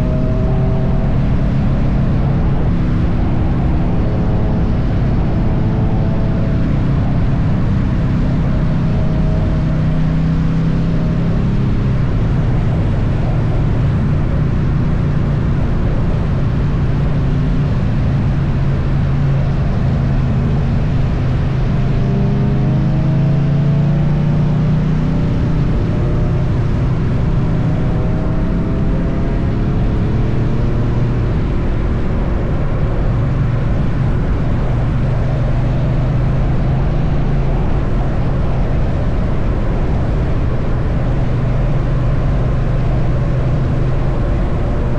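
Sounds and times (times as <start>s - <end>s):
motorcycle engine cruising: 0.0s - 44.9s
road noise: 0.0s - 44.9s
wind noise: 0.0s - 44.9s.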